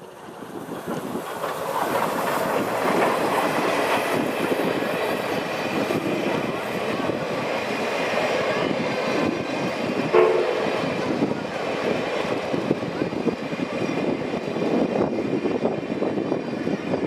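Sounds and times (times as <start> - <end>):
train wheels rattling past: 0.0 - 17.0.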